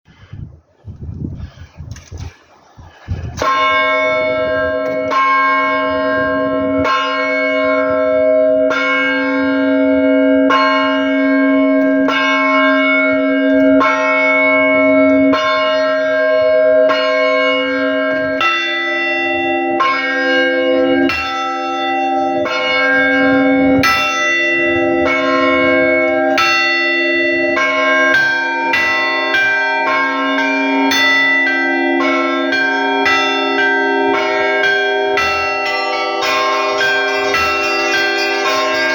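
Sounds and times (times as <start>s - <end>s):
church bells ringing: 3.3s - 38.9s.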